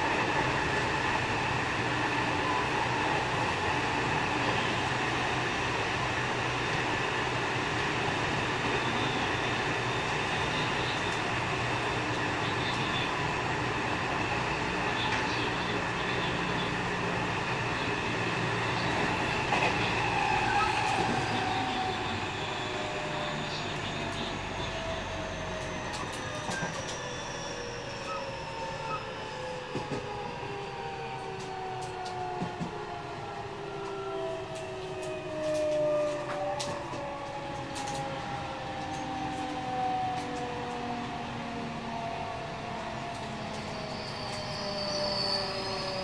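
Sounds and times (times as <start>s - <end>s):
train inverter and motors whining: 0.0s - 46.0s.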